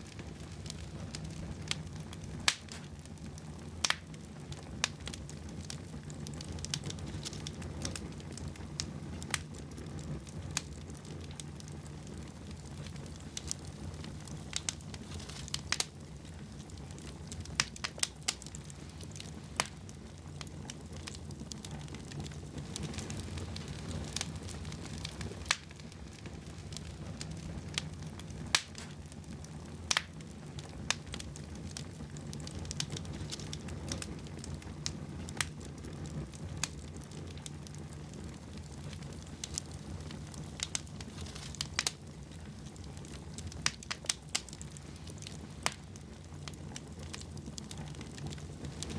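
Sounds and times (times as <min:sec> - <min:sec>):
rush of flames: 0:00.0 - 0:48.9
wood fire crackling and popping: 0:00.0 - 0:48.9.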